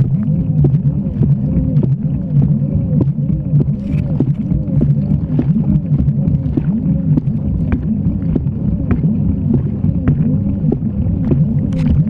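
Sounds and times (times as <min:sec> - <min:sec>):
churning water: 0:00.0 - 0:12.0
washing machine agitator hum: 0:00.0 - 0:12.0.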